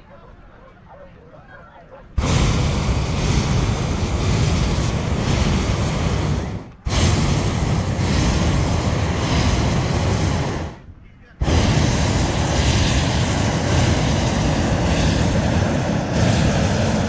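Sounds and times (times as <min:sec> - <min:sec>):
propane burner roaring: 0:02.2 - 0:17.0.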